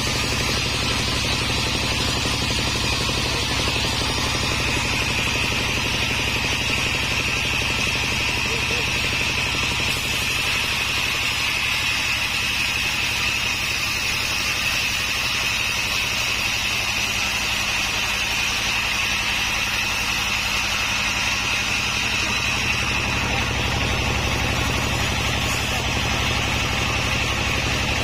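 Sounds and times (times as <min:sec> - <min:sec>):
sawmill running: 0:00.0 - 0:28.0.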